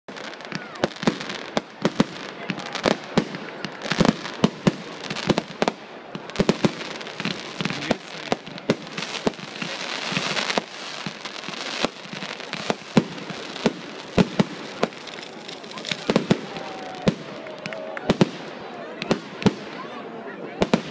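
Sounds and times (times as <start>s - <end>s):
crackling hiss: 0.1s - 17.6s
fireworks bangs: 0.1s - 19.8s.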